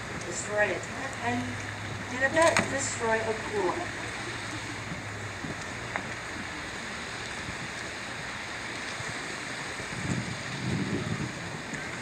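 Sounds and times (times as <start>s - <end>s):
waterfall pouring over rocks: 0.0s - 12.0s.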